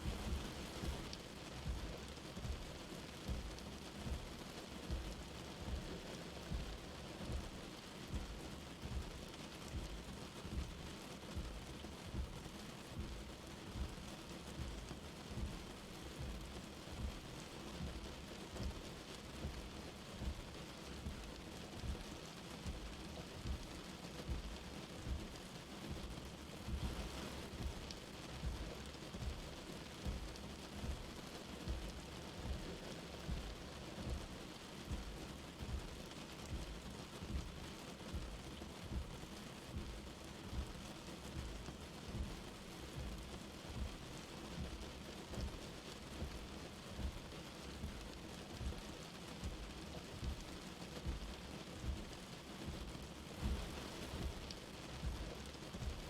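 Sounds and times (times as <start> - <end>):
light rain hissing: 0.0 - 56.0.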